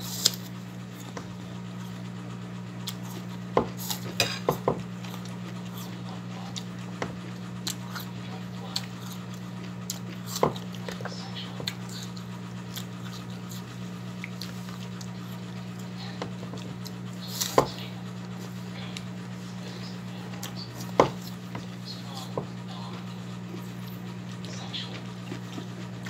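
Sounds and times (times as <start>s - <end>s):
steady low hum: 0.0s - 26.0s
chewing and mouth sounds: 2.8s - 4.2s, 5.0s - 26.0s.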